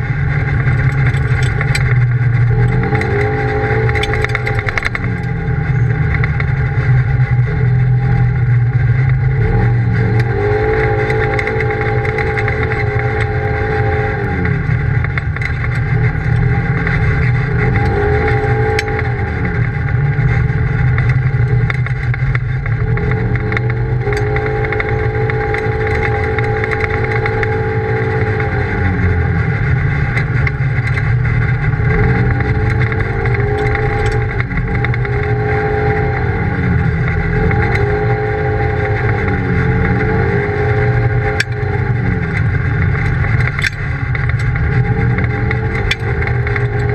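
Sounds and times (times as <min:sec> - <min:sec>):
engine revving: 0:00.0 - 0:46.9
sharp ticks: 0:00.2 - 0:06.6, 0:10.1 - 0:19.8, 0:20.4 - 0:28.9, 0:29.6 - 0:46.9.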